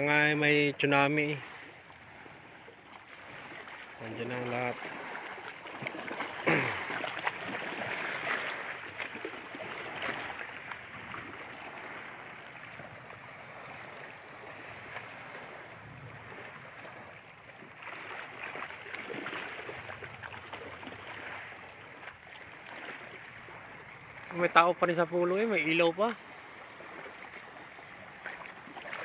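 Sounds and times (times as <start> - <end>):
waves: 0.0 - 29.0
wind: 0.0 - 29.0.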